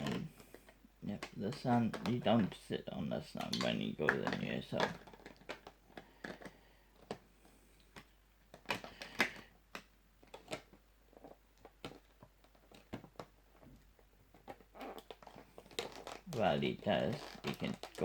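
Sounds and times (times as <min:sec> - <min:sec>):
plastic figure and packaging clicking: 0:00.0 - 0:02.6, 0:03.2 - 0:18.0.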